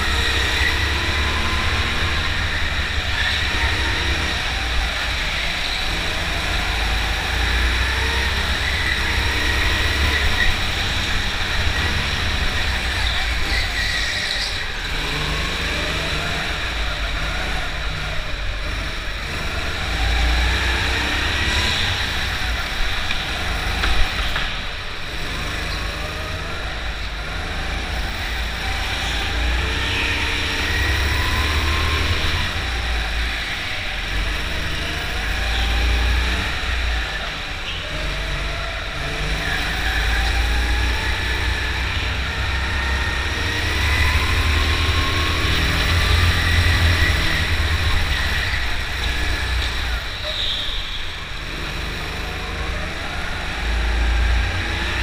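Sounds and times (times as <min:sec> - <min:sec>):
go-kart motors revving: 0:00.0 - 0:55.0.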